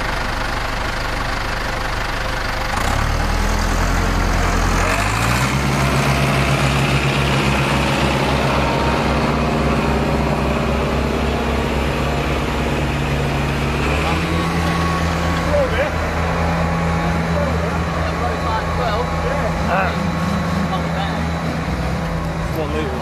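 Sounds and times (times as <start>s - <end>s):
tractor diesel engine revving: 0.0s - 23.0s.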